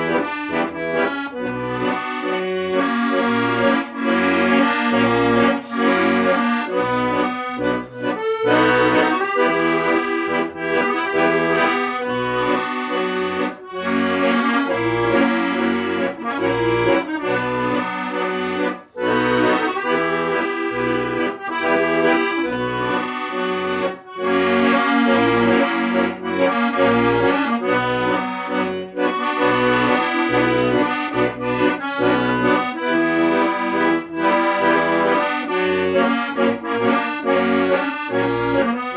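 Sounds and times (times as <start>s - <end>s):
accordion playing melody: 0.0s - 38.9s.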